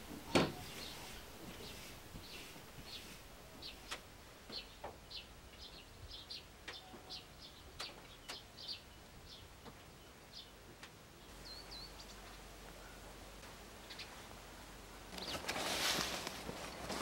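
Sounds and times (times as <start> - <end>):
faint songbird chirping: 0.1 - 15.8.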